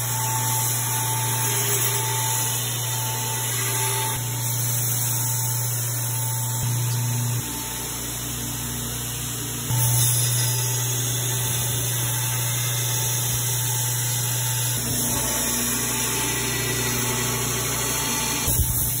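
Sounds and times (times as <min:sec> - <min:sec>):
belt grinder grinding steel blade: 0:00.0 - 0:19.0.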